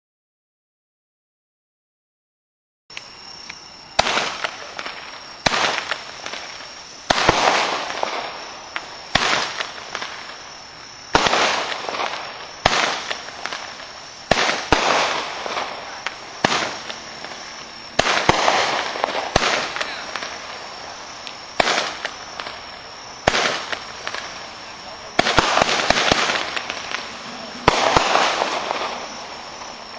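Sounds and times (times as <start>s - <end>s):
firework crackling report: 2.9s - 29.9s
fireworks launch bangs with hiss: 2.9s - 29.9s.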